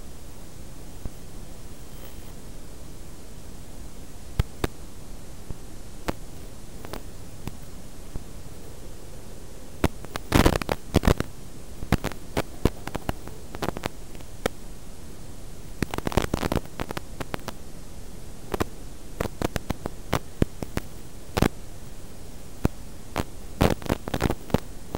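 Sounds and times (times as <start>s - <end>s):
static hiss: 0.0s - 24.9s
sharp crackles and pops: 0.1s - 2.5s, 3.8s - 9.0s, 9.7s - 24.9s.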